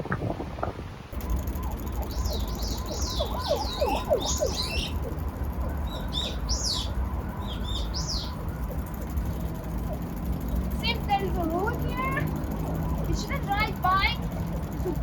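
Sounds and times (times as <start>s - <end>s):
low rumble: 1.2s - 15.0s
small birds chirping: 1.2s - 15.0s.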